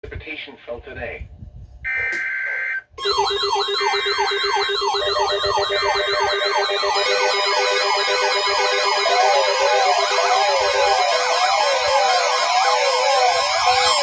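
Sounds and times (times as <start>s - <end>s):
electronic data tone: 1.9s - 14.0s
electronic siren-like tones: 1.9s - 14.0s.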